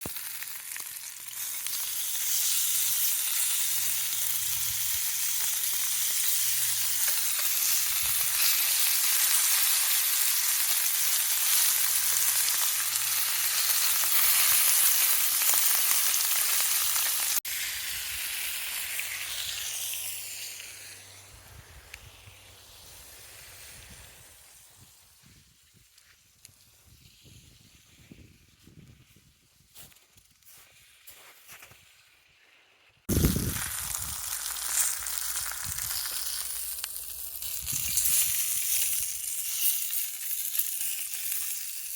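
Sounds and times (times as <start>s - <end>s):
meat sizzling on a grill: 0.0s - 25.7s, 33.1s - 41.9s.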